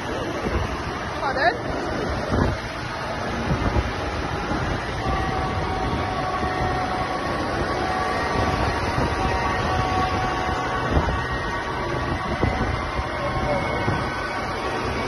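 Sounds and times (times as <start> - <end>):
steady horn tone: 0.0 - 15.0
tractor engines passing: 0.0 - 15.0.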